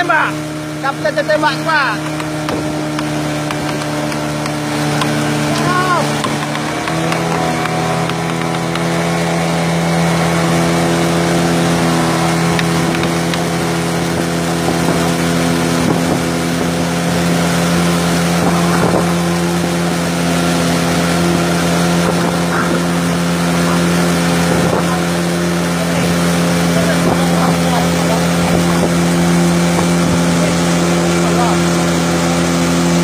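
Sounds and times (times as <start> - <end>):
outboard motor running: 0.0 - 33.0
water rushing along hull: 0.0 - 33.0.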